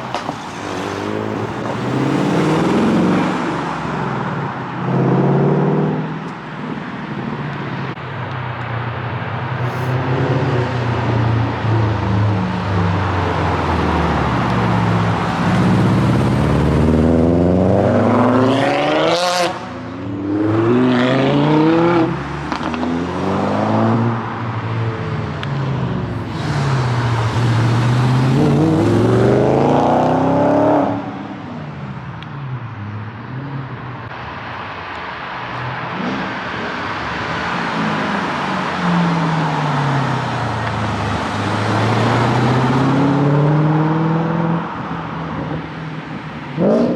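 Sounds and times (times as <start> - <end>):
car engines revving: 0.0 - 46.9.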